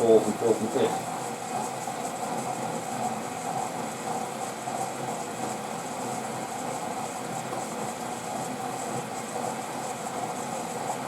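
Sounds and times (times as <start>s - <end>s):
washing machine humming: 0.0s - 11.0s.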